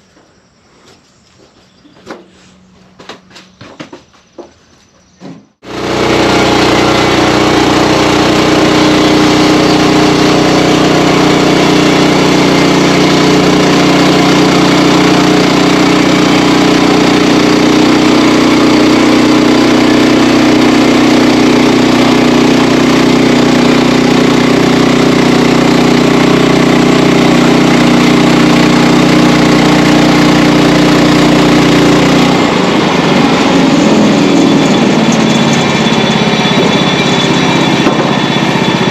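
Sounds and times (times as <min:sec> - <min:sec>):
sawmill engine running: 0:05.6 - 0:38.9.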